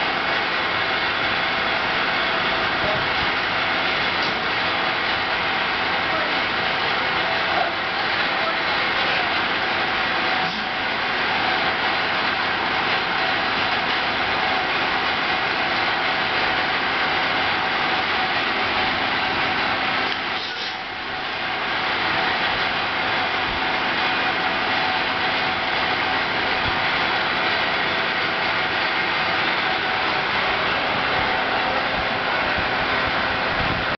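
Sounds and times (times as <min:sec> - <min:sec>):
fume extractor whirring: 0:00.0 - 0:33.9.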